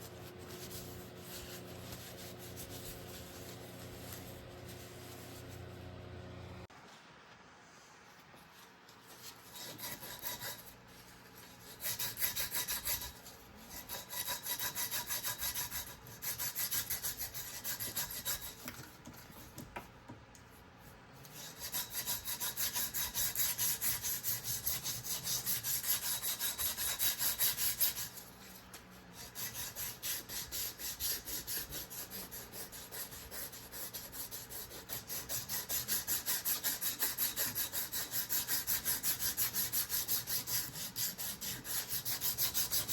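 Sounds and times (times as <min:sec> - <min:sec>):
scrubbing strokes on metal: 0:00.0 - 0:05.8, 0:09.0 - 0:18.7, 0:21.2 - 0:42.9.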